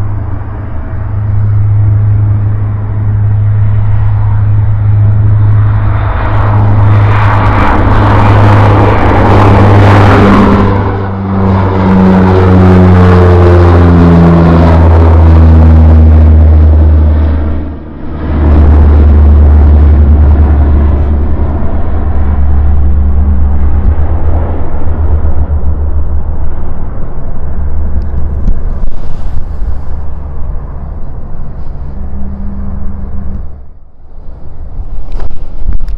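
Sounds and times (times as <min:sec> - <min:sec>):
turboprop aircraft droning: 0:00.0 - 0:35.9.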